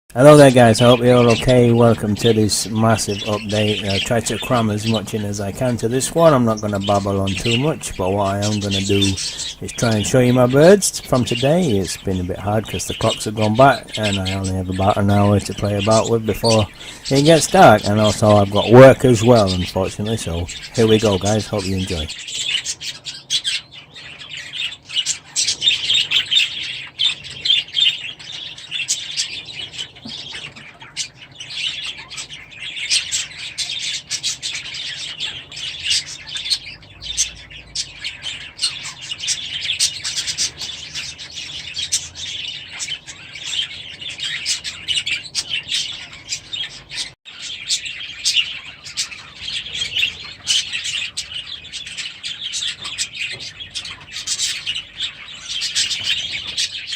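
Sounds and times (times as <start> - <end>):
flock of birds chirping: 0.1 - 56.9.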